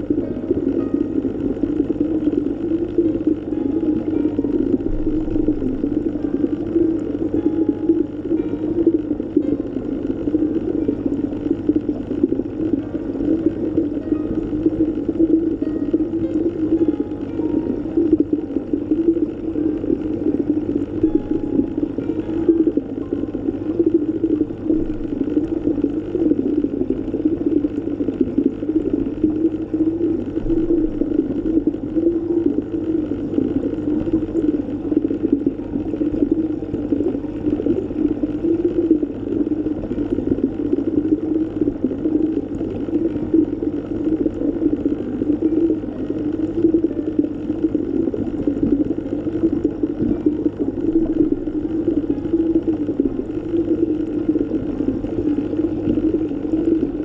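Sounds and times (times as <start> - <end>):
muffled underwater water rush: 0.0 - 57.0.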